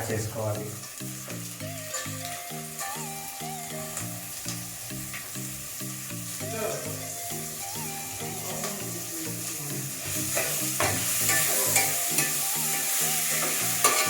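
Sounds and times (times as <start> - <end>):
food sizzling in hot oil: 0.0 - 14.0
soft rhythmic background music: 0.0 - 14.0.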